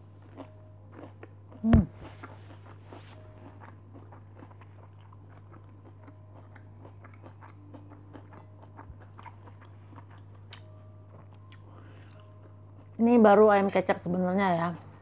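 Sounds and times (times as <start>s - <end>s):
food crunching: 0.0s - 13.0s
person chewing with mouth clicks: 0.0s - 13.0s
low hum: 0.0s - 15.0s.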